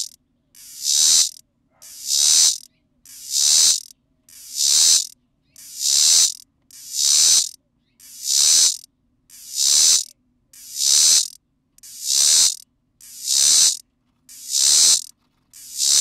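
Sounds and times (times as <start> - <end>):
cicada singing: 0.0 - 16.0.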